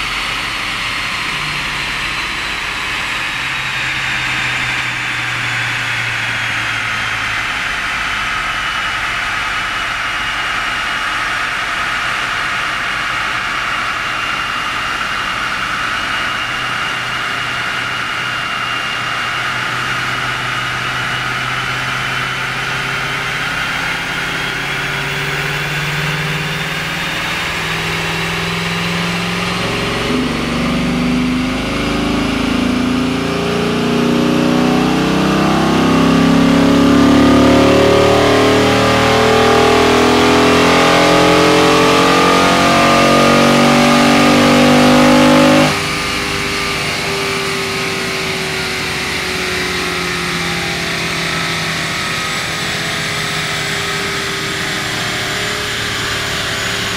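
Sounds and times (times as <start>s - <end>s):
car engine at full throttle: 0.0s - 56.9s
high whine: 0.0s - 56.9s.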